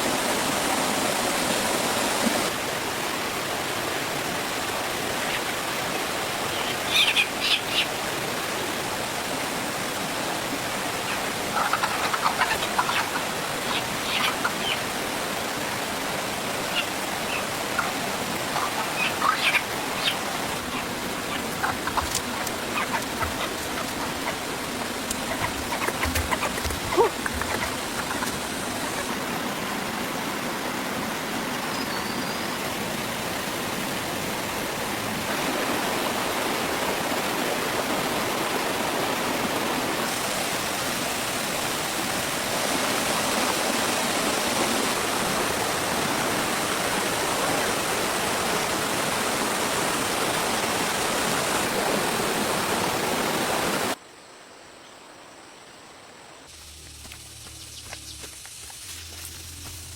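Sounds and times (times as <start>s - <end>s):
running water rushing: 0.0s - 54.0s, 55.9s - 59.9s.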